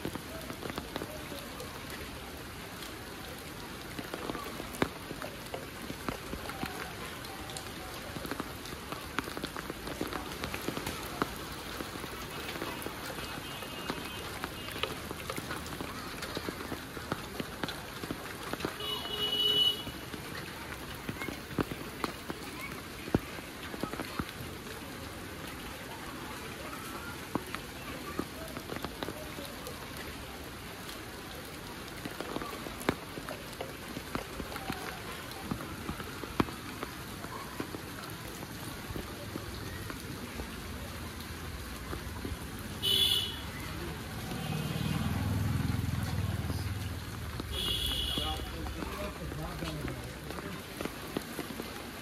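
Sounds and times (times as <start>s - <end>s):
heavy rain falling: 0.0s - 52.0s
sharp raindrop hits: 0.0s - 52.0s.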